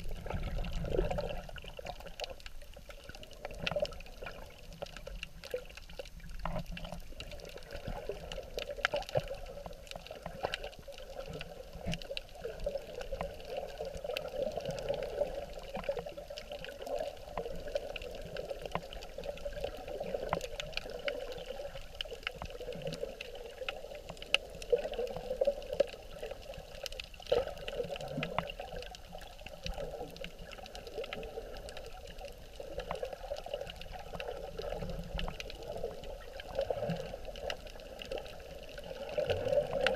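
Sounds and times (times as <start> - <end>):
muffled underwater rushing: 0.0 - 39.9.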